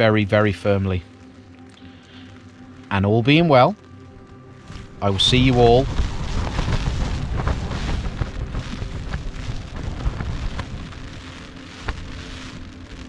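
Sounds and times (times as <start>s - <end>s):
tent fabric buffeted by wind: 0.0s - 13.0s.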